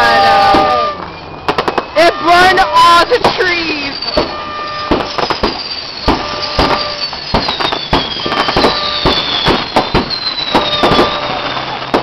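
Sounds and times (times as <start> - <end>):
high falling whistle: 0.0 - 11.9
fireworks cracking and popping: 0.1 - 12.0.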